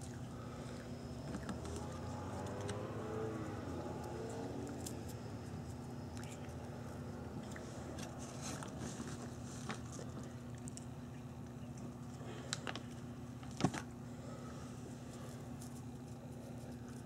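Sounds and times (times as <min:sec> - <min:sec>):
cats crunching treats: 0:00.0 - 0:17.0
low hum: 0:00.0 - 0:17.0.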